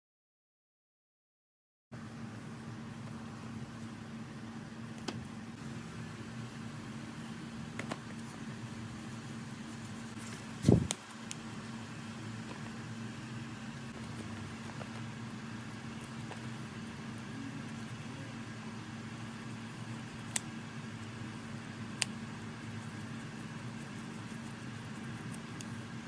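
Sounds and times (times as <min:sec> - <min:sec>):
steady low hum: 0:02.0 - 0:26.0.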